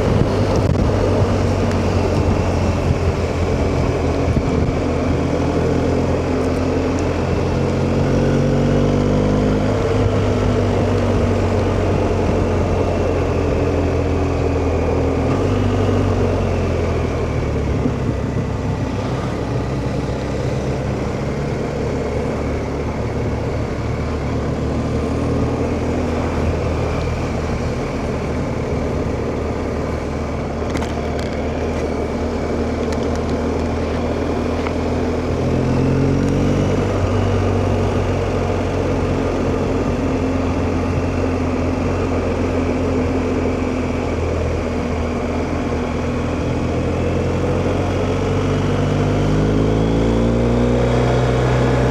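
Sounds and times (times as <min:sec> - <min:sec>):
motorcycle engine accelerating: 0:00.0 - 0:51.9
wind and road noise: 0:00.0 - 0:51.9.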